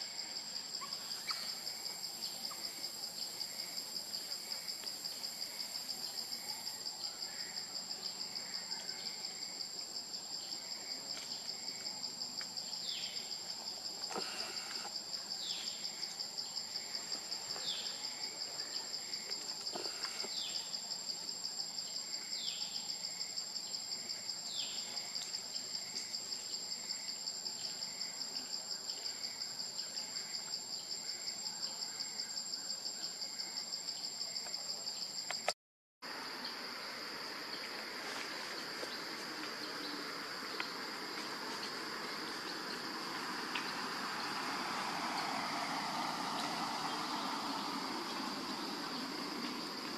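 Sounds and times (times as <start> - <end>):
pulsing insect chorus: 0.0 - 49.9.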